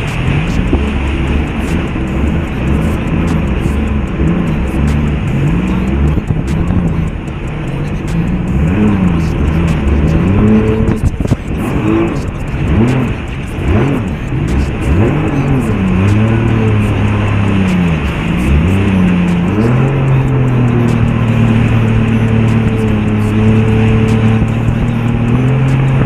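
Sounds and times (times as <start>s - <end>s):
jet ski engine revving: 0.0s - 26.0s.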